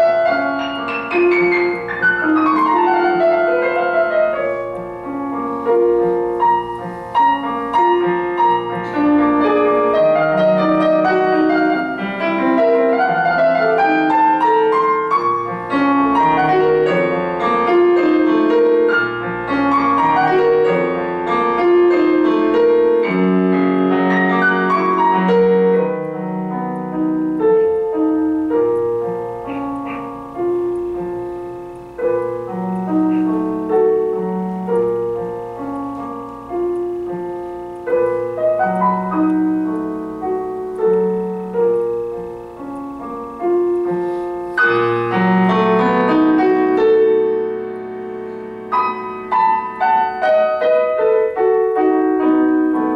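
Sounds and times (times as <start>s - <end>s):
solo piano music: 0.0s - 52.9s.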